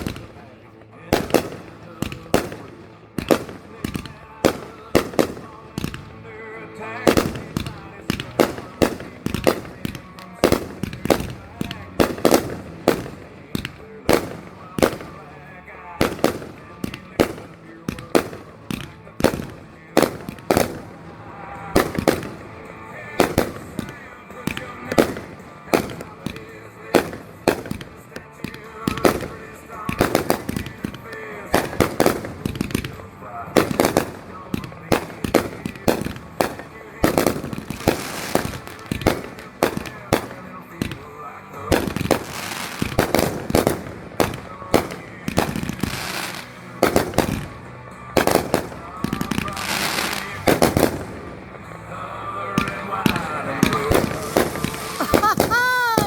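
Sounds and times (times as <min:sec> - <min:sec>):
faint song playing: 0:00.0 - 0:56.0
fireworks bangs: 0:00.0 - 0:56.0
fireworks crackling: 0:00.0 - 0:56.0.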